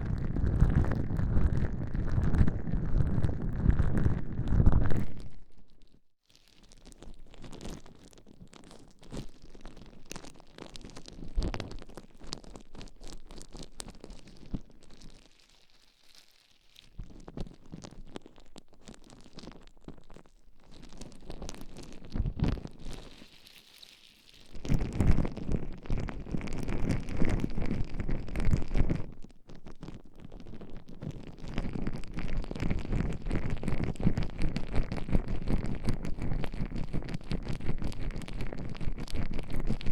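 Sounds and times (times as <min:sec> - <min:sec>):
small crackles: 0:00.0 - 0:39.9.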